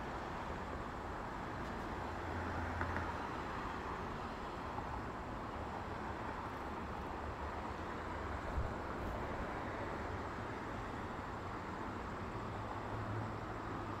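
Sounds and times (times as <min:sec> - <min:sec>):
cars passing: 0:00.0 - 0:14.0.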